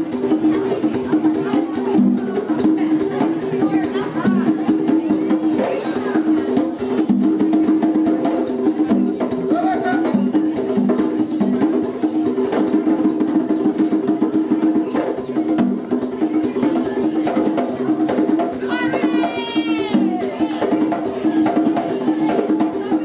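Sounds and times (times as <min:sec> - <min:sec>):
hand drumming: 0:00.0 - 0:23.0
shakers: 0:00.0 - 0:23.0.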